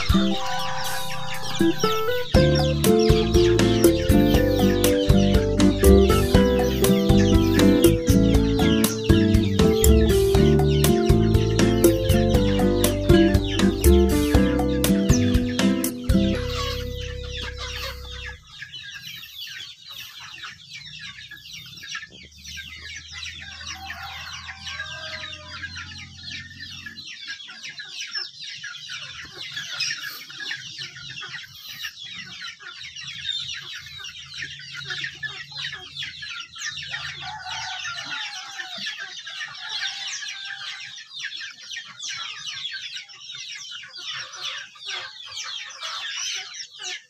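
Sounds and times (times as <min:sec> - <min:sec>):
chickens clucking: 0:00.0 - 0:47.0
chicks peeping: 0:00.0 - 0:47.0.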